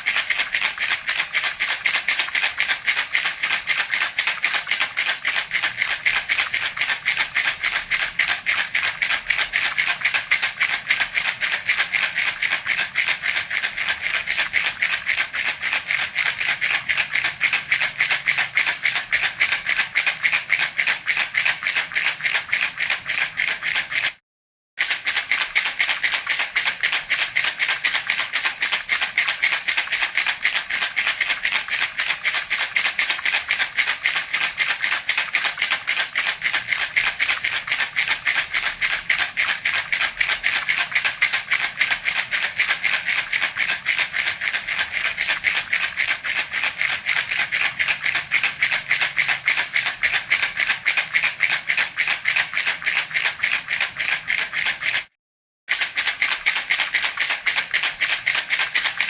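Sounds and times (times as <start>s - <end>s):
baby rattle shaken: 0.0s - 24.2s, 24.8s - 59.0s.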